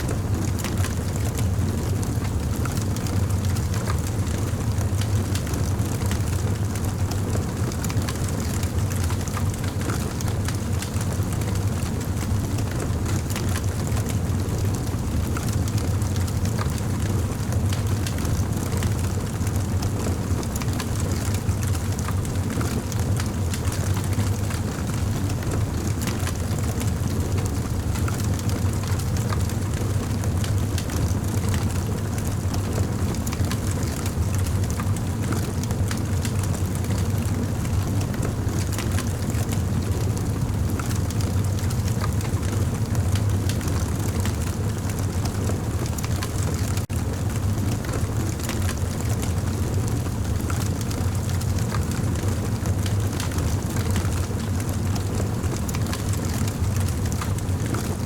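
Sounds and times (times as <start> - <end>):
campfire crackling and roaring: 0.1 - 58.0.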